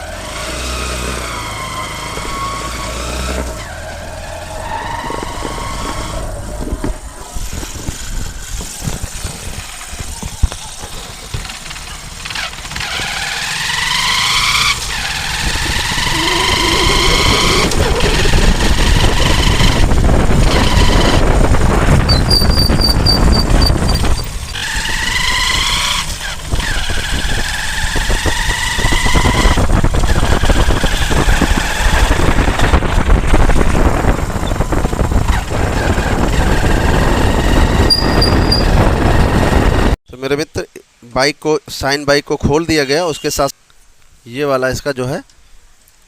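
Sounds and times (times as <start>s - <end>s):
motorcycle engine revving: 0.0s - 40.0s
whining gear tone: 0.0s - 40.0s.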